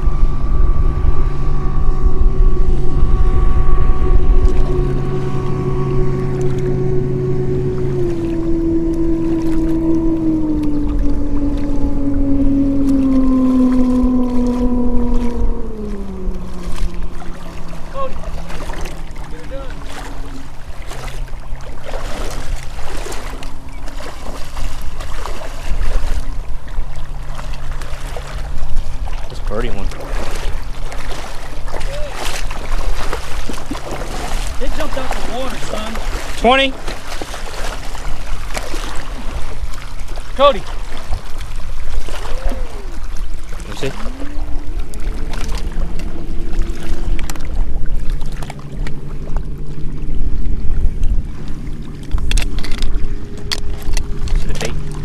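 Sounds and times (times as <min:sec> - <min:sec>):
boat motor humming: 0:00.0 - 0:55.0
wind rumble on microphone: 0:00.0 - 0:55.0
water splashing around legs: 0:04.3 - 0:55.0.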